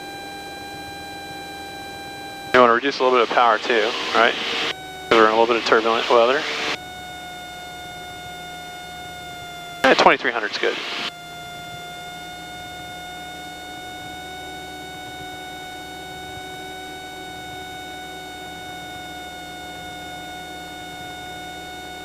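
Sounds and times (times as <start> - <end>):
light aircraft engine drone: 0.1 - 22.0.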